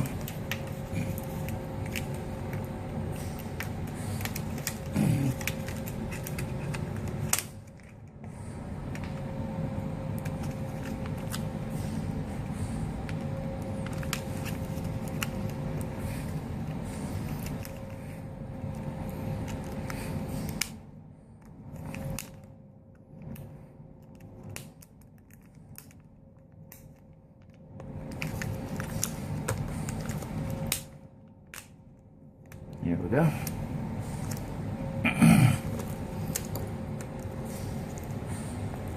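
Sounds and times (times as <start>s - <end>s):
steady background hum: 0.0s - 38.9s.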